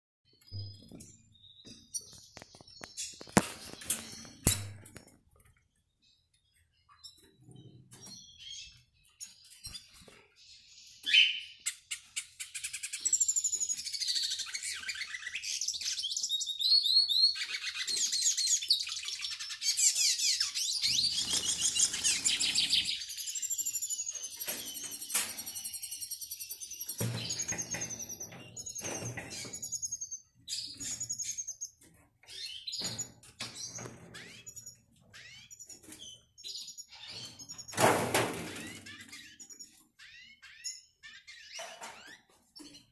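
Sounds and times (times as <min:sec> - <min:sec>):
bird twittering song: 0:00.3 - 0:42.9.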